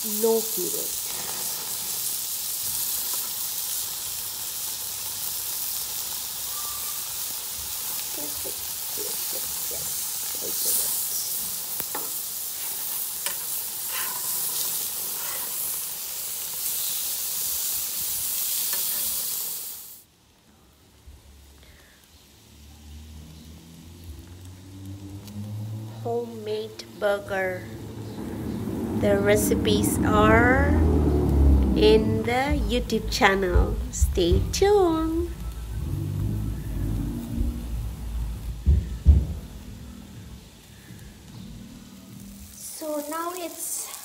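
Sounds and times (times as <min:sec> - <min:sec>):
burger patties sizzling on grill: 0:00.0 - 0:44.0.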